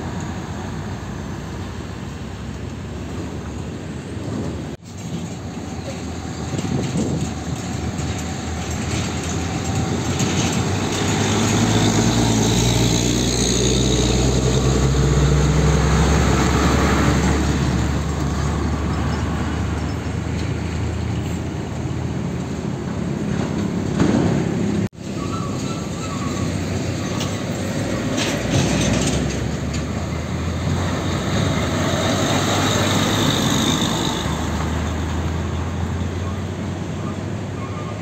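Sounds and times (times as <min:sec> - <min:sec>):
road traffic: 0:00.0 - 0:38.0
truck diesel engines passing: 0:00.0 - 0:38.0.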